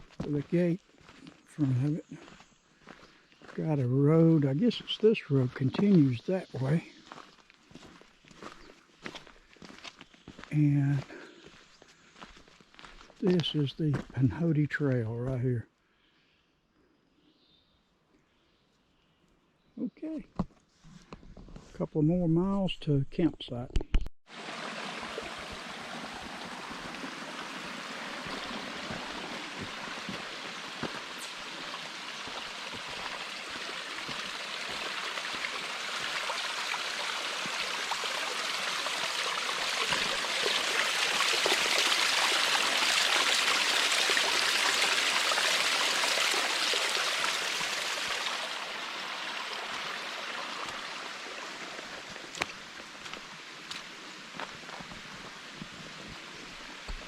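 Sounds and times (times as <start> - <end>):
creek water running: 0.0 - 15.6, 24.3 - 57.0.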